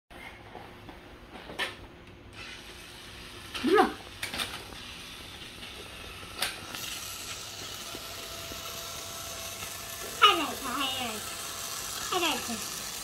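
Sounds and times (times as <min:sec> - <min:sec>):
small toy motor running: 0:02.3 - 0:13.0.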